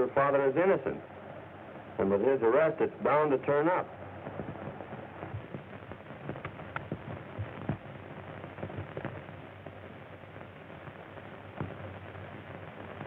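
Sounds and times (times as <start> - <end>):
crackles and pops: 0.0 - 13.0
film soundtrack hiss: 0.0 - 13.0.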